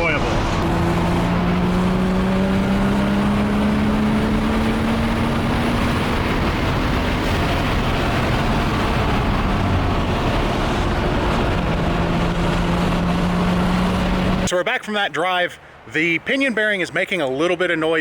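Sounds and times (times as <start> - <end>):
car road and drivetrain noise: 0.0 - 14.5
pitched drone: 0.0 - 14.5.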